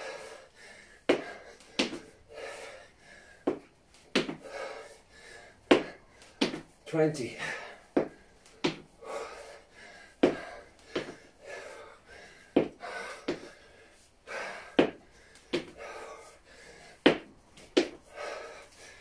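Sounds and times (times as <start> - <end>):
man breathing hard: 0.0 - 19.0.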